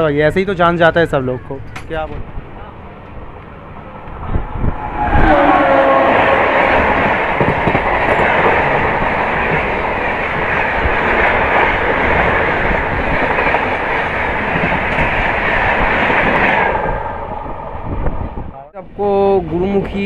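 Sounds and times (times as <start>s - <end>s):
rush of wind and rails: 0.0s - 20.0s.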